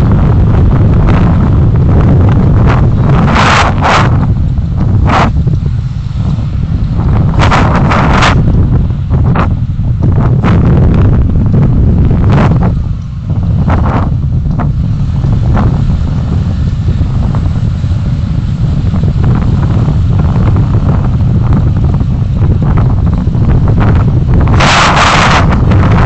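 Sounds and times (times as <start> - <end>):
wind buffeting a microphone: 0.0 - 26.0.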